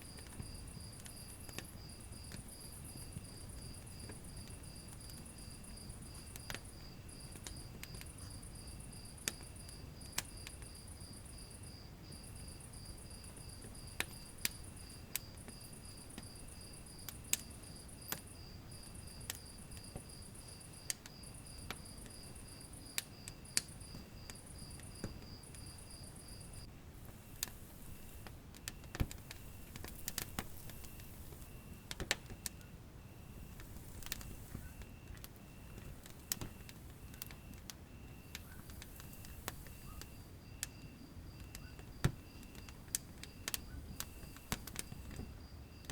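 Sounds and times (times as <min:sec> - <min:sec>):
low rumble of flame: 0:00.0 - 0:45.9
rapidly pulsing insect chirp: 0:00.0 - 0:45.9
slow faint chirp: 0:00.0 - 0:45.9
wood fire crackling: 0:00.0 - 0:45.9.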